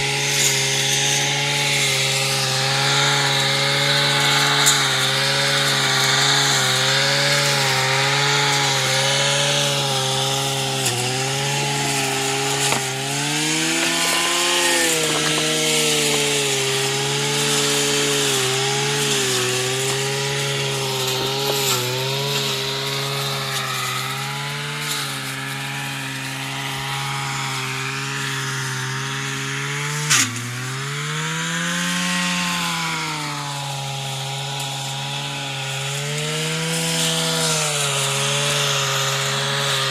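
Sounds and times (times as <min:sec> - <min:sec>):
brush cutter engine running: 0:00.0 - 0:39.9.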